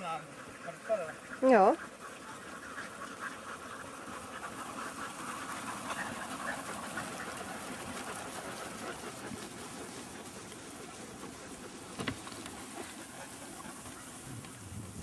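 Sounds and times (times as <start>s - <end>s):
animals panting: 0.0s - 15.0s.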